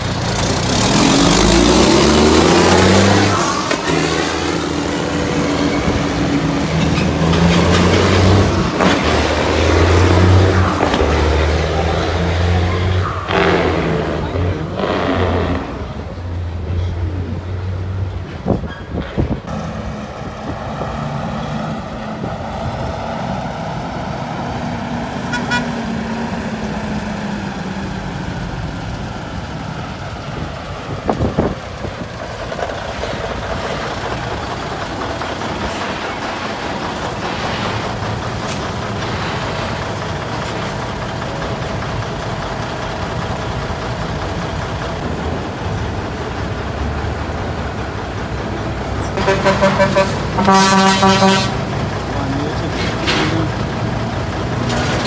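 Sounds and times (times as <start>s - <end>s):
truck diesel engines running: 0.0s - 55.0s.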